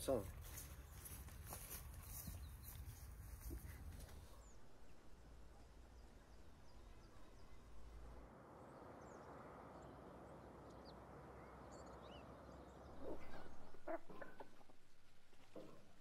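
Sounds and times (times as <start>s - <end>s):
bird chirps: 0.1s - 5.0s, 5.6s - 14.4s.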